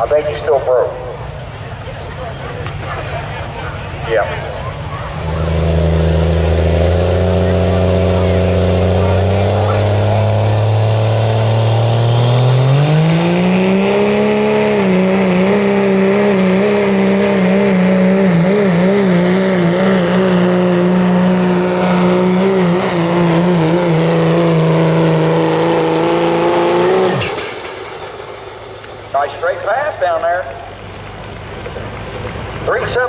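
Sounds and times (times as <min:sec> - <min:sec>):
diesel pickup engine revving: 0:00.0 - 0:33.0.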